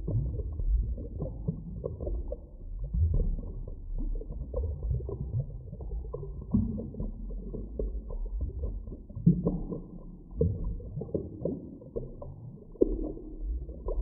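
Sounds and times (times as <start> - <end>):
low underwater rumble: 0.0 - 14.0.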